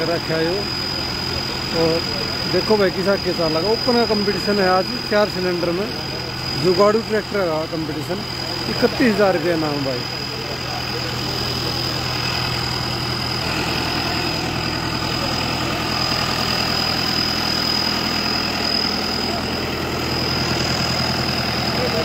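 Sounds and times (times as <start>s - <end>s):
high-pitched whine: 0.0s - 22.0s
tractor diesel engine idling: 0.0s - 22.0s.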